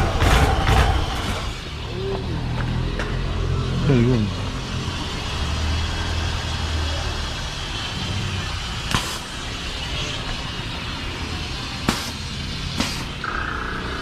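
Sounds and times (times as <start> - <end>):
sewer jetter engine and pump drone: 0.0 - 14.0
water spraying hiss: 0.8 - 13.3.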